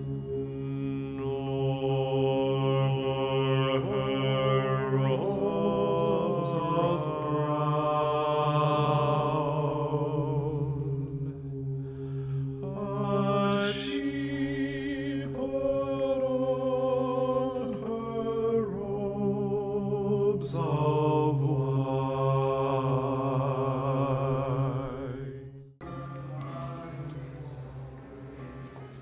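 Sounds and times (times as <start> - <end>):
low drone: 0.0 - 29.0
voices chanting long notes: 0.0 - 29.0.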